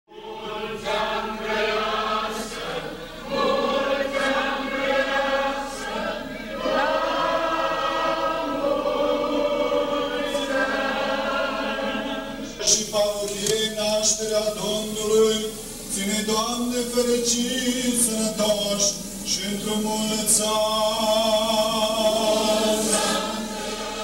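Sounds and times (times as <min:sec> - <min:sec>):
choir singing a chant: 0:00.1 - 0:13.2, 0:14.5 - 0:24.0.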